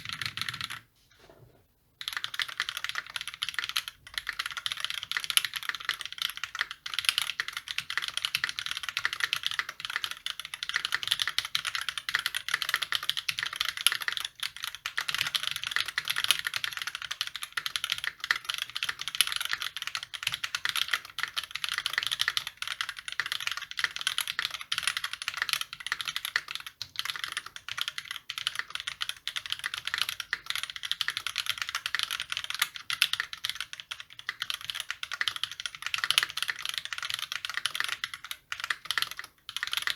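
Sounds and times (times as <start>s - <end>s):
fast typing on mechanical keyboard: 0.0s - 0.9s, 2.0s - 39.9s.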